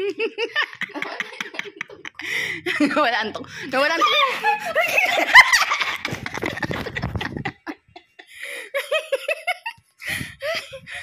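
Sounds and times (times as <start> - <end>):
woman giggling: 0.0 - 9.8.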